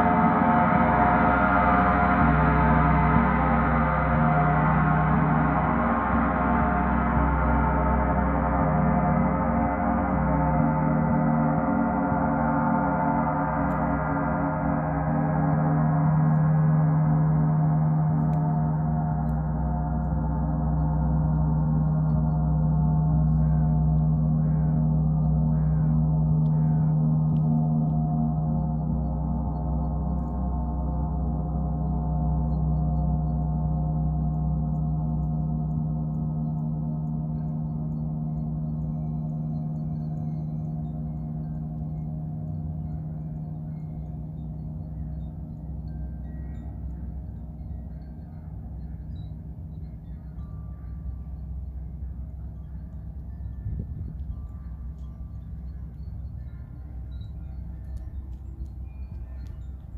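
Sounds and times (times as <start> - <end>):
large gong ringing: 0.0 - 59.9.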